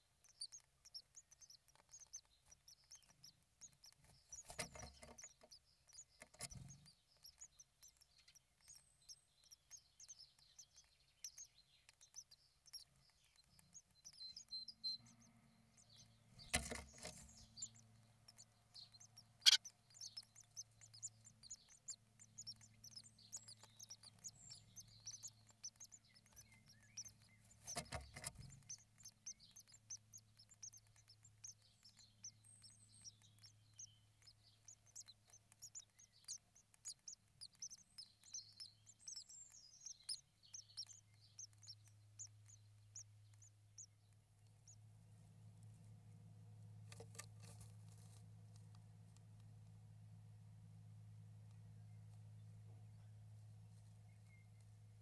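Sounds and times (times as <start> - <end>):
low electrical hum: 0.0 - 55.0
small birds chirping: 0.0 - 55.0.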